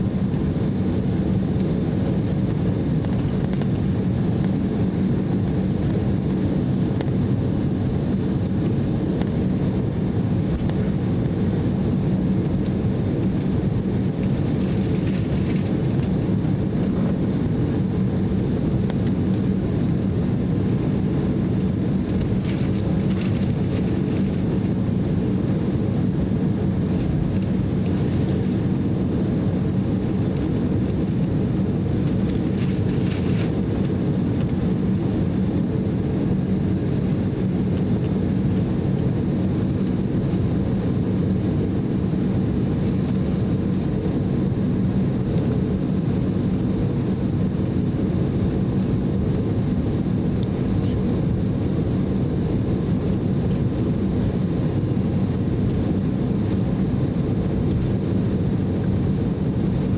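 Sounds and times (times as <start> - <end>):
airliner engines rumbling: 0.0 - 59.9.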